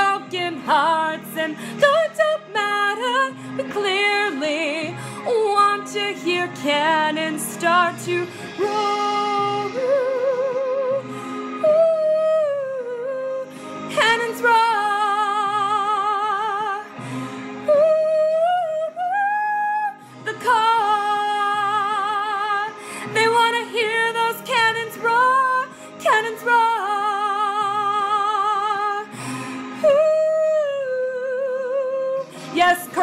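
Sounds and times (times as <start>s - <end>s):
backing music: 0.0s - 33.0s
woman singing with vibrato: 0.0s - 33.0s.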